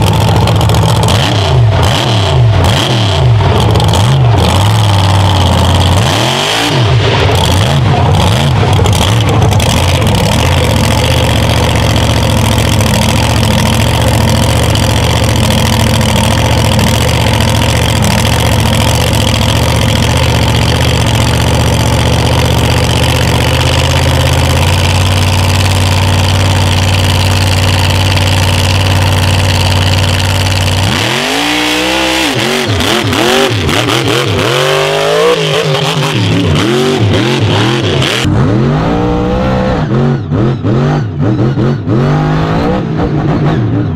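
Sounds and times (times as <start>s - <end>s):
truck engine idling: 0.0s - 40.5s
truck engine revving hard: 0.0s - 43.9s.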